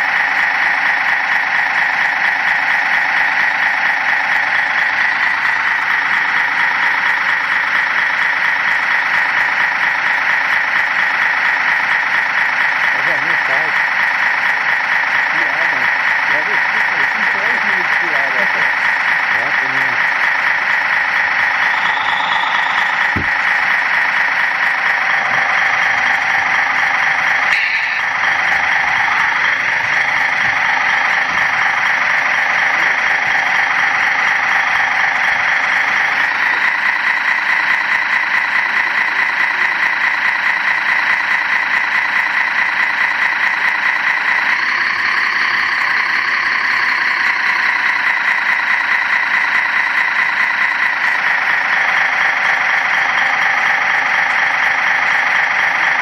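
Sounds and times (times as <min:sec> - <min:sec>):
model truck motor whine: 0:00.0 - 0:56.0.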